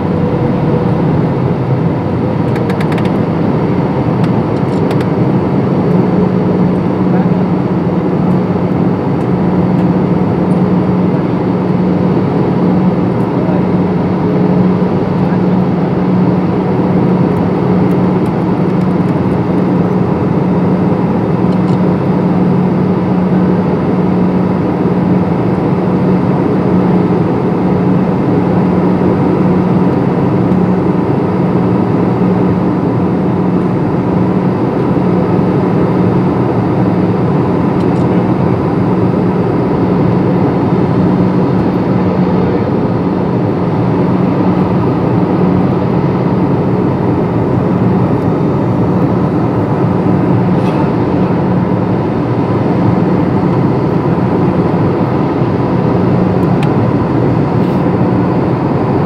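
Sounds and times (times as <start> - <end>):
airflow over fuselage: 0.0 - 59.0
constant low hum: 0.0 - 59.0
jet engines roaring: 0.0 - 59.0.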